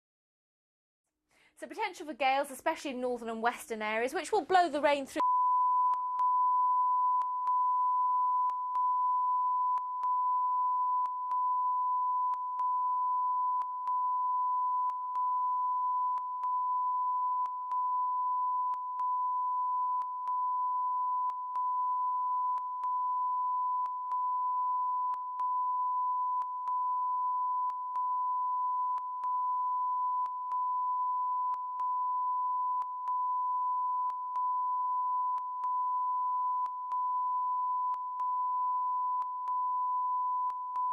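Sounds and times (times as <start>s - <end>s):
electronic test tone beep: 5.2s - 40.9s.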